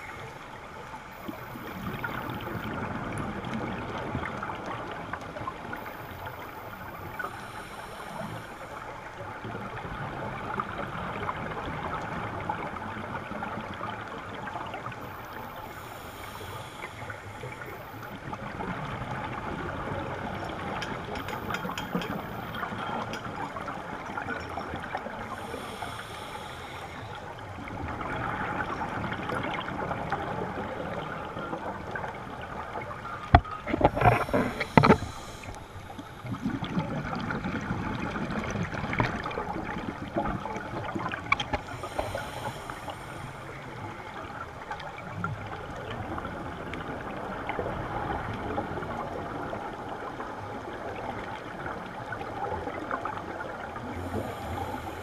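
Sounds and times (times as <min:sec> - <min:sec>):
underwater hiss and crackle: 0:00.0 - 0:55.0.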